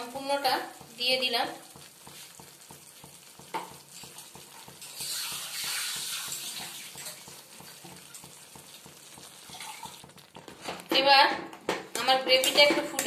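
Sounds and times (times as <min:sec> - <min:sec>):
gravy sizzling in a frying pan: 0:00.0 - 0:13.0.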